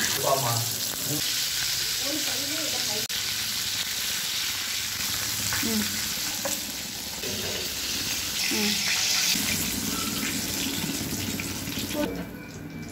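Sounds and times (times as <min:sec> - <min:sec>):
hot oil sizzling: 0:00.0 - 0:12.7.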